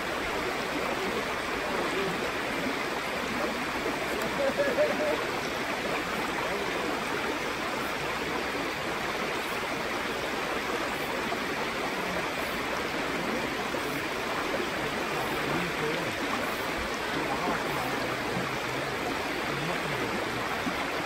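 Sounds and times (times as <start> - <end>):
stream flowing: 0.0 - 21.0.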